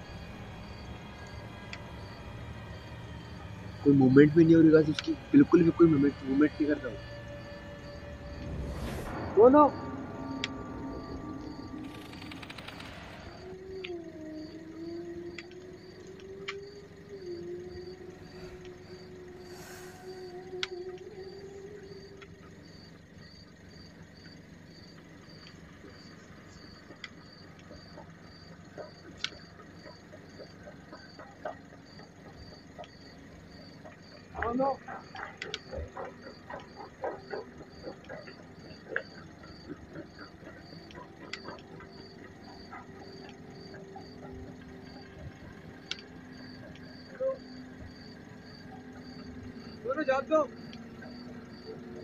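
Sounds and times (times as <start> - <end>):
crickets chirping: 0.0 - 52.0
low steady hum: 0.0 - 52.0.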